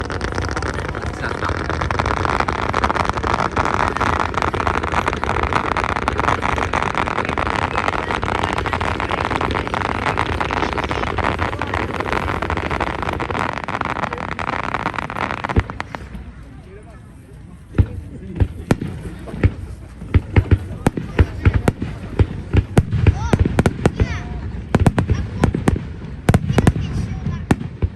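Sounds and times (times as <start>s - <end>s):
fireworks crackling: 0.0s - 27.9s.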